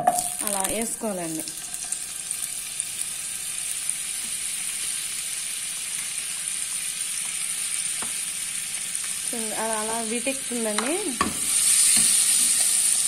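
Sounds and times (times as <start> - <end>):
butter sizzling in a pot: 0.0 - 13.0.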